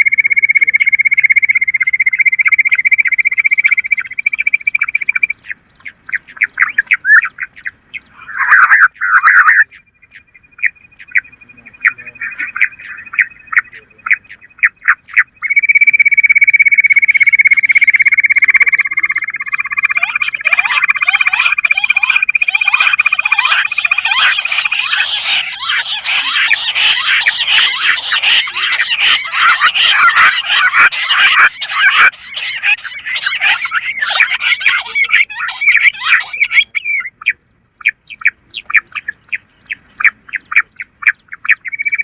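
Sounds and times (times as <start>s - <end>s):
chorus of bird calls: 0.0s - 42.0s
quail calling: 0.0s - 42.0s
rapid high bird trill: 0.0s - 42.0s.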